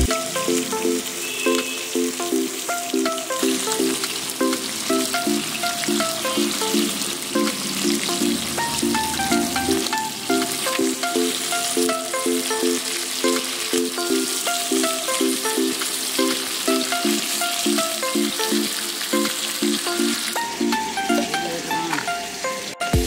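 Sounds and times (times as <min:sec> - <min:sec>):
background music melody: 0:00.0 - 0:23.0
fish frying in hot oil: 0:00.1 - 0:22.8.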